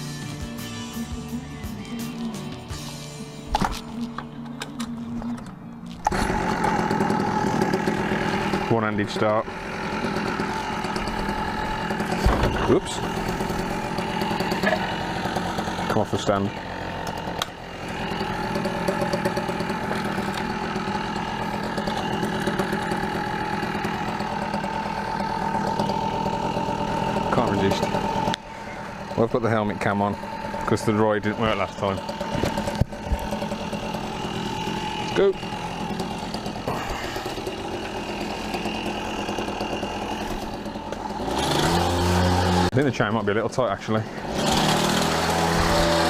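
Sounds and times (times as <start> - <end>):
small two-stroke engine idling: 4.5 - 46.0.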